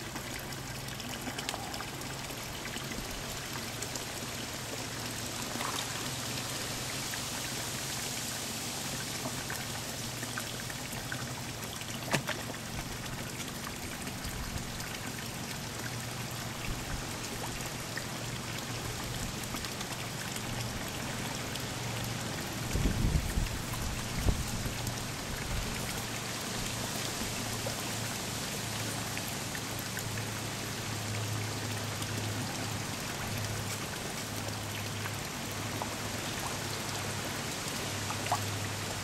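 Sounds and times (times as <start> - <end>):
pond water trickling and splashing: 0.0 - 39.0.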